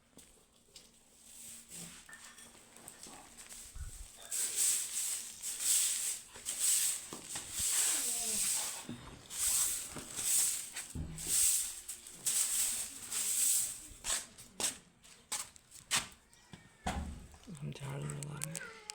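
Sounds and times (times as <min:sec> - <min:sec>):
broom sweeping a floor: 0:00.2 - 0:16.2.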